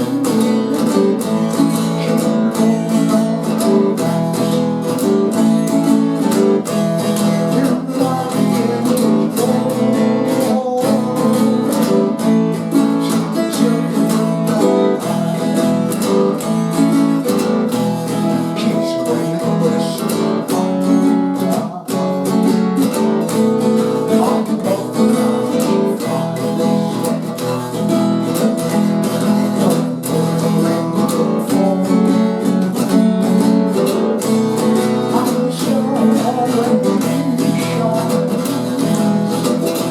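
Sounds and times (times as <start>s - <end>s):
acoustic guitar folk music: 0.0s - 39.9s.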